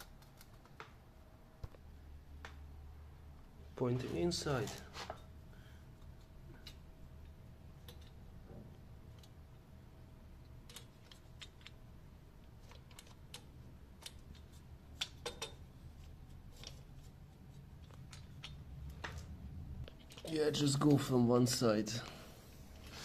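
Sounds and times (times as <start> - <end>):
faint steady low hum: 0.0 - 23.0.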